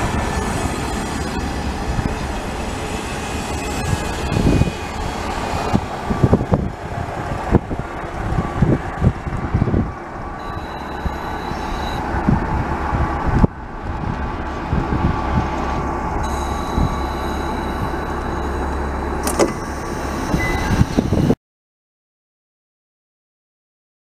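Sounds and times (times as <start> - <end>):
diesel engine idling drone: 0.0 - 21.4
wind buffeting microphone: 0.0 - 21.4.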